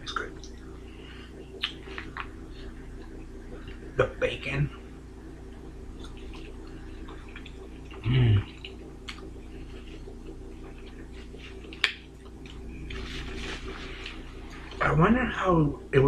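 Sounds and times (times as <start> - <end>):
people chewing food: 0.0 - 4.0, 5.5 - 14.9
steady low hum: 0.0 - 16.0.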